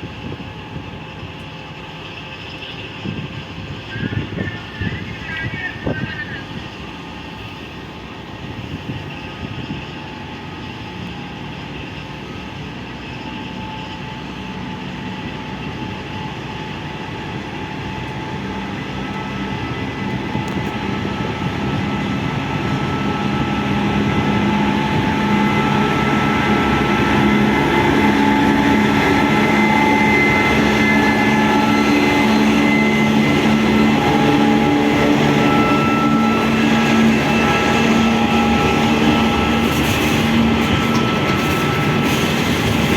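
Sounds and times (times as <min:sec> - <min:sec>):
train rumble: 0:00.0 - 0:42.9
train whining tones: 0:00.0 - 0:42.9.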